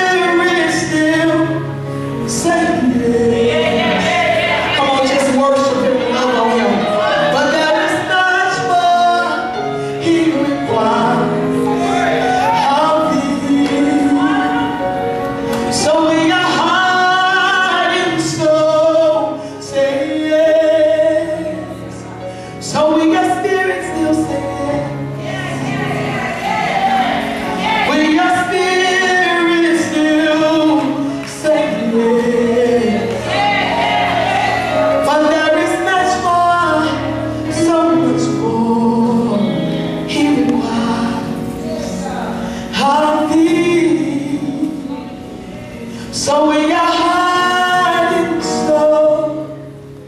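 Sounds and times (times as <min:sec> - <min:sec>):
gospel group singing: 0:00.0 - 0:49.6.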